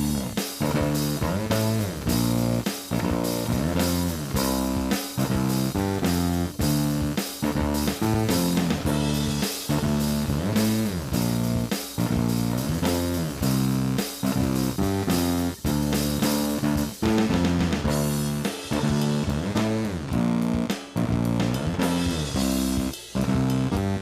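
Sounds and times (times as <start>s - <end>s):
band music led by guitar: 0.0s - 24.0s
bass guitar: 0.0s - 24.0s
drum kit: 0.0s - 24.0s.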